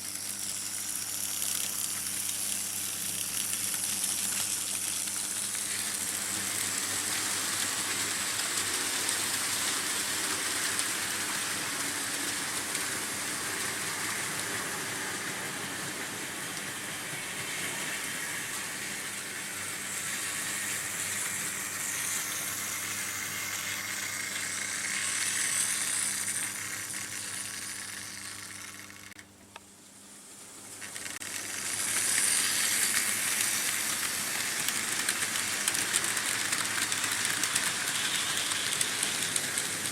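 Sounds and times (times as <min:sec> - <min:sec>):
model train wheels rattling on rails: 0:00.0 - 0:29.2, 0:30.7 - 0:39.9.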